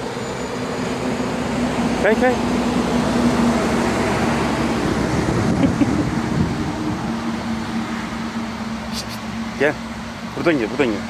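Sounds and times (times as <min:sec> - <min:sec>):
constant low hum: 0:00.0 - 0:11.0
continuous rumble and hiss: 0:00.0 - 0:11.0.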